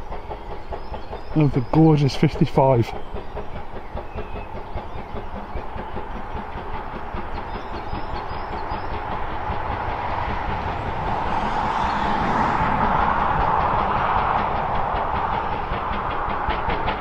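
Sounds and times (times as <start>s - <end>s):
steam locomotive exhaust beats: 0.0s - 17.0s.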